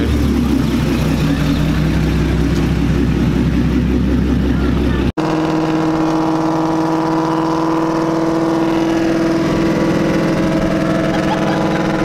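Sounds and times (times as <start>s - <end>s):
car engine droning inside cabin: 0.0s - 12.0s.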